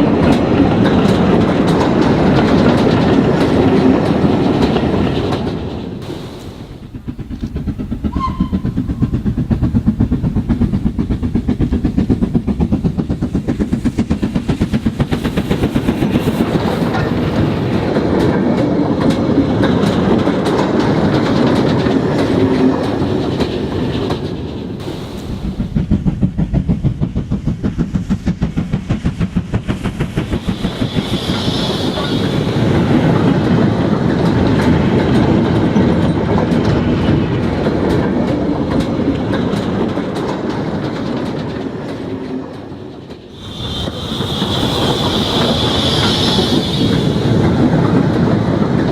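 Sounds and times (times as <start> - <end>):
model train wheels clicking: 0.0 - 48.9.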